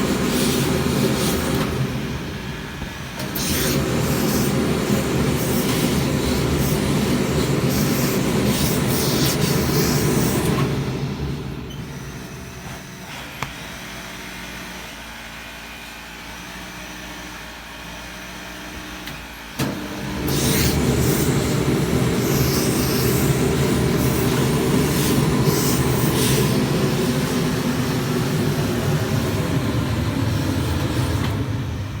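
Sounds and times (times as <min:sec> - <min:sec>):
machine motor running: 0:00.0 - 0:14.9, 0:18.5 - 0:32.0.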